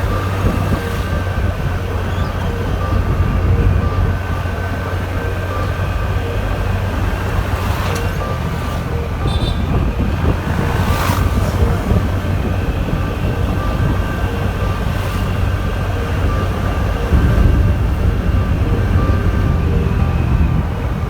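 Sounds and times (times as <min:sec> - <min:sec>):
vehicle road and wind noise: 0:00.0 - 0:21.0.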